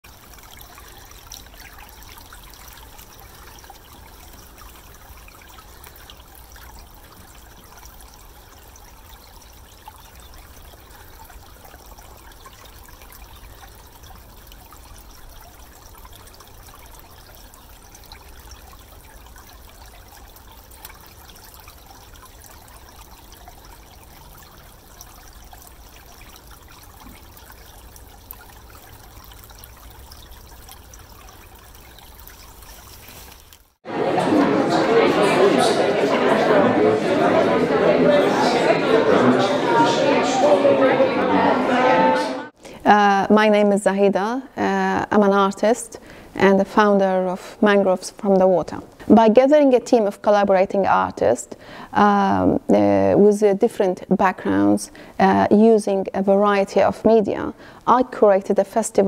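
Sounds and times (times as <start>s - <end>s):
water trickling: 0.0s - 41.8s, 42.5s - 59.0s.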